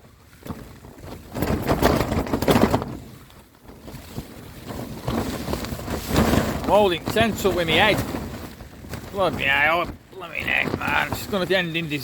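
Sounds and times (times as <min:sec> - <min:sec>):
strong wind gusting against tent: 0:00.0 - 0:12.0
tent fabric flapping and rattling: 0:00.0 - 0:12.0.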